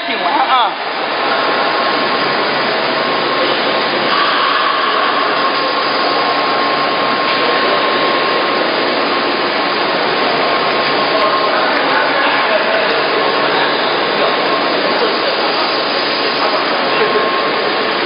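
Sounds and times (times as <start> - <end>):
faint steady whine: 0.0 - 18.0
processing machinery whirring: 0.0 - 18.0.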